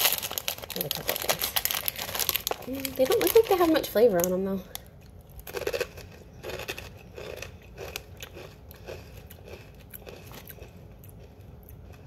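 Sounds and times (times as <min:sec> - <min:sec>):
person chewing crunchy cracker: 0:00.0 - 0:03.6, 0:04.8 - 0:12.0.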